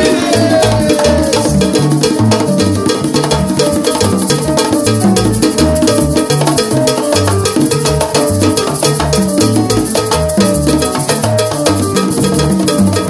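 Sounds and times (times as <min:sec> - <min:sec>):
bass notes: 0:00.0 - 0:13.0
congas struck by hand: 0:00.0 - 0:13.0
salsa band playing: 0:00.0 - 0:13.0.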